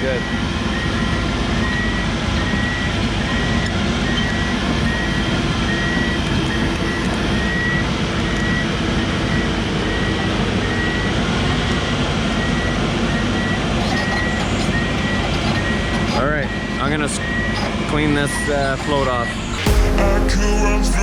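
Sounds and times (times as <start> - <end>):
excavator travel alarm beeping: 0.0 - 19.7.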